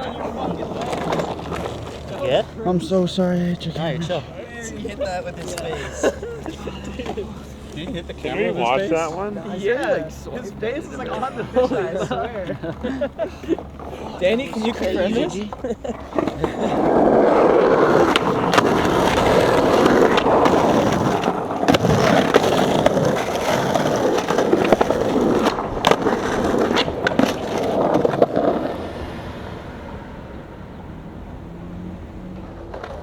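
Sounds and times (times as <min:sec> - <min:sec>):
skateboard wheels rolling on pavement: 0:00.0 - 0:33.0.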